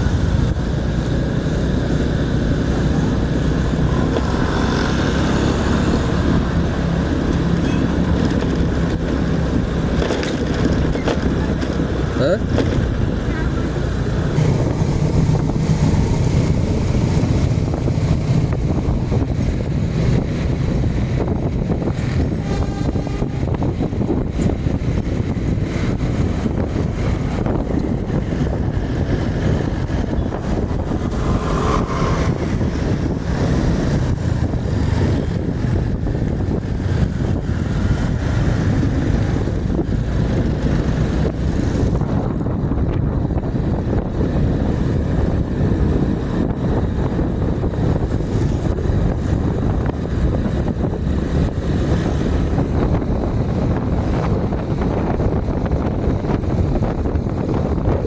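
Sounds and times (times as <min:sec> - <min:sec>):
road noise: 0:00.0 - 0:58.0
vehicle engine: 0:00.0 - 0:58.0
wind buffeting microphone: 0:00.0 - 0:58.0.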